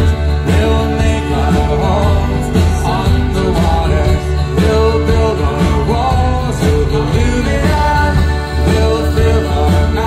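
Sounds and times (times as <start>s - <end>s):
folk-rock band playing live: 0.0s - 10.0s.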